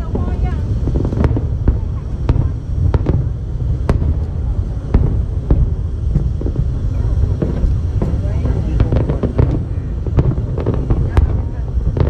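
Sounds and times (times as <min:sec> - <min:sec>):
fireworks rumbling and cracking: 0:00.0 - 0:12.0.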